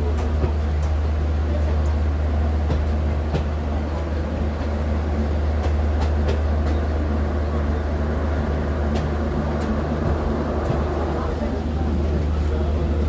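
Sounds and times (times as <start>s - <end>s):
train rumbling from inside: 0.0s - 13.0s.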